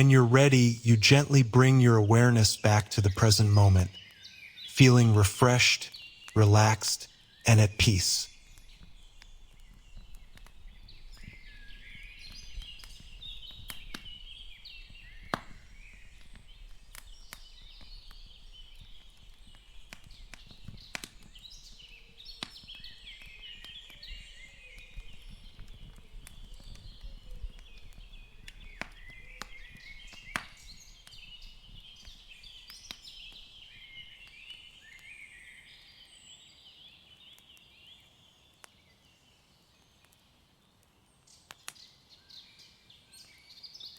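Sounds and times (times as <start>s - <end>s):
small birds chirping: 0.0s - 40.2s.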